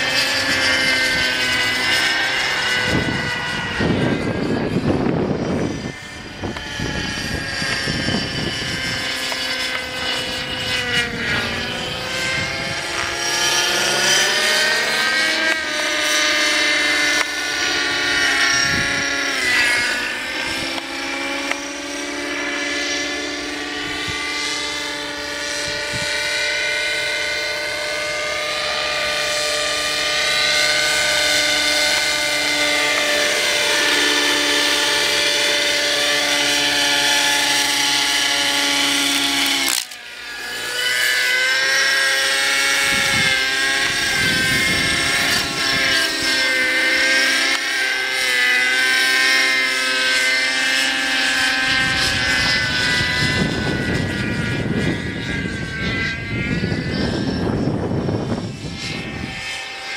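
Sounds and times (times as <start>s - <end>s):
model helicopter engine whine: 0.0s - 59.9s.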